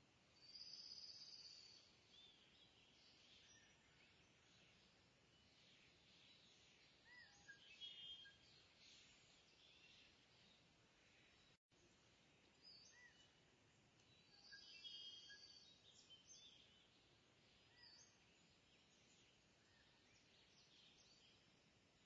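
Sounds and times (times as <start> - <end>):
low background hiss: 0.0 - 22.0
bird chirps: 0.4 - 11.6, 12.5 - 13.4, 14.0 - 21.5.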